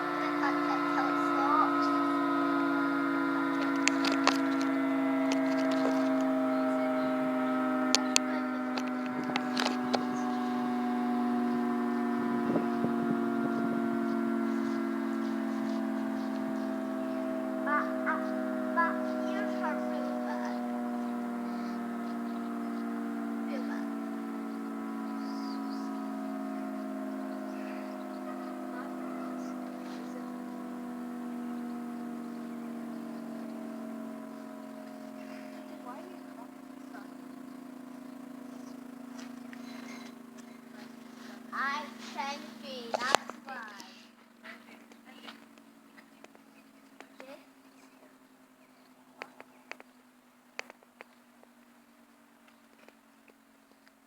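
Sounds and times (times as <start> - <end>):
siren steady note: 0.0 - 54.0.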